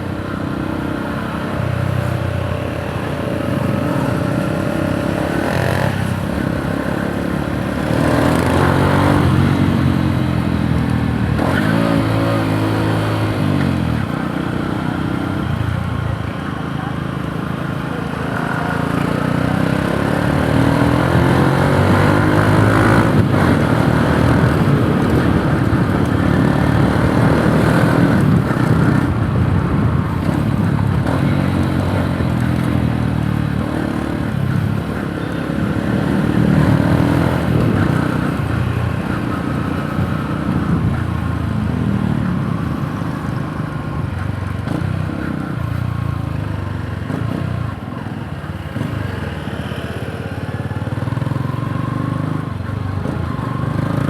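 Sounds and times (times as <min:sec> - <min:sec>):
motorcycle engine accelerating: 0:02.7 - 0:14.3, 0:18.2 - 0:54.0.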